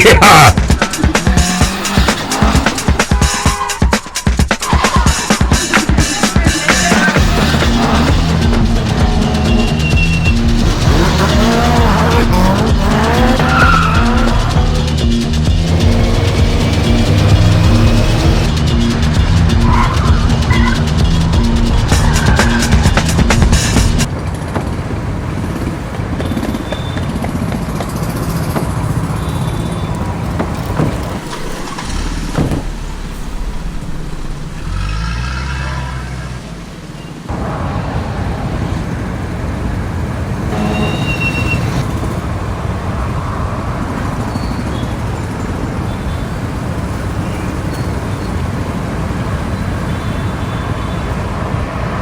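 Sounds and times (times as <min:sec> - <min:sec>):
car and traffic noise: 0:00.0 - 0:52.0.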